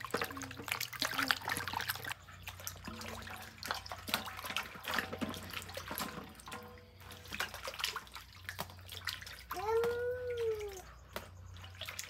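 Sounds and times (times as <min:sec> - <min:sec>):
carrots splashing in water: 0:00.0 - 0:12.0.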